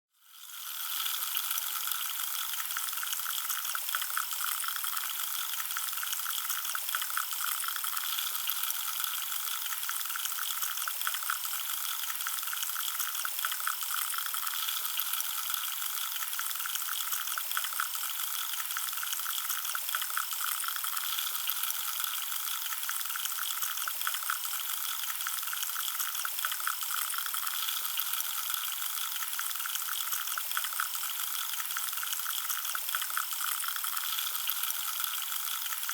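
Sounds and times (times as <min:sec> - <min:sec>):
carbonated drink fizzing: 0:00.2 - 0:35.9.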